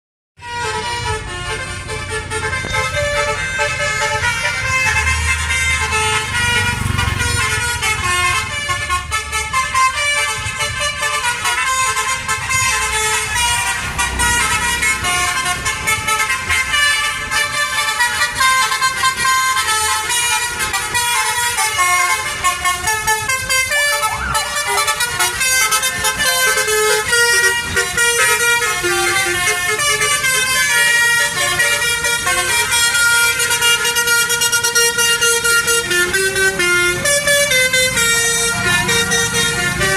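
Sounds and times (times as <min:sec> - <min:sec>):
multi-tone musical bus horns: 0:00.4 - 0:39.9
low engine rumble: 0:00.6 - 0:39.9.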